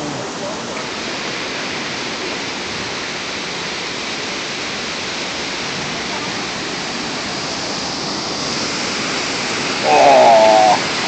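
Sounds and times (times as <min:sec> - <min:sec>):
whitewater rushing through gorge: 0:00.0 - 0:11.0.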